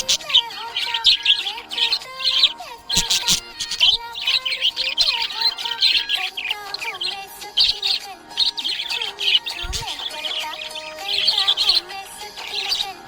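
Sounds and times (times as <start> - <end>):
budgerigar chirping and warbling: 0.0 - 13.0.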